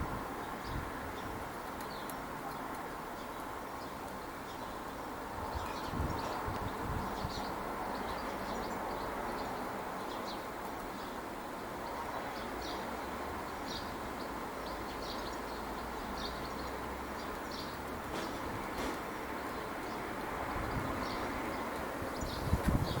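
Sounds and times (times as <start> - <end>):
small birds chirping: 0.4 - 23.0.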